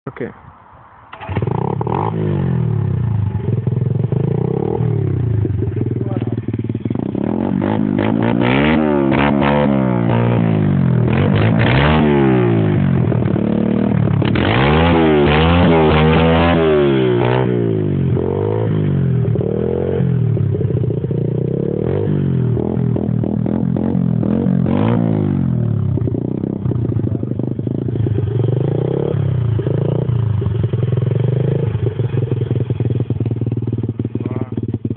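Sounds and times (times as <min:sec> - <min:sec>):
motorbike engine idling and revving: 0:01.1 - 0:34.9.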